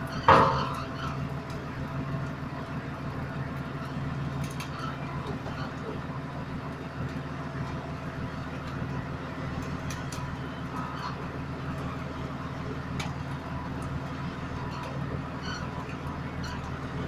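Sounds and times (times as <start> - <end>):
road roller engine under load: 0.0 - 17.0.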